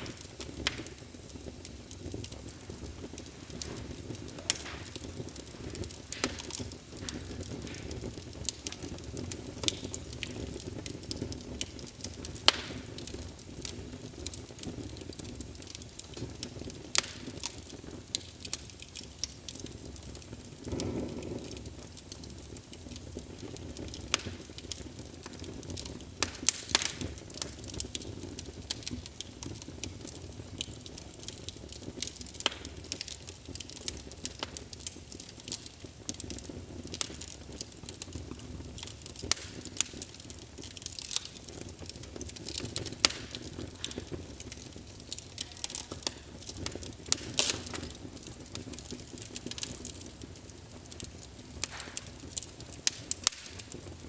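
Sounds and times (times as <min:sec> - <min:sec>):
flames whooshing: 0:00.0 - 0:54.0
wood fire crackling: 0:00.0 - 0:54.0.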